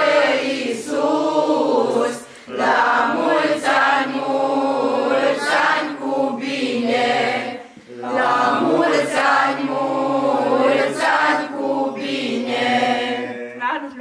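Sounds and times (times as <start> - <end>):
group singing without instruments: 0.0 - 13.7.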